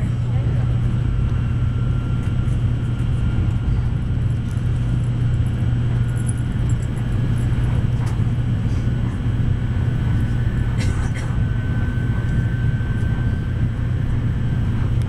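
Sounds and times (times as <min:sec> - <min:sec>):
train cabin rumble and hum: 0:00.0 - 0:15.0
faint high whine: 0:00.1 - 0:15.0.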